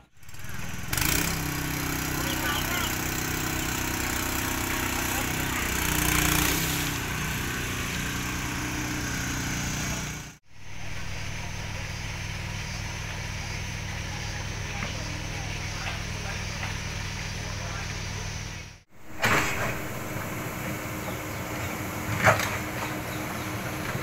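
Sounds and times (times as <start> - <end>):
diesel engine humming: 0.0 - 24.0
engine running: 0.0 - 24.0.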